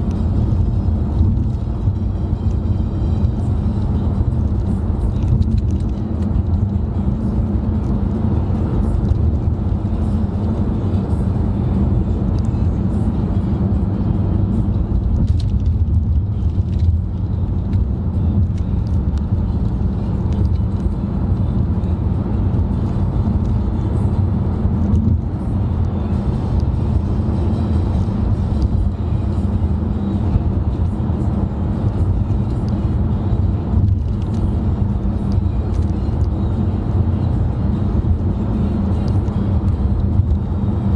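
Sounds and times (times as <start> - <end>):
car interior road drone: 0.0 - 40.9.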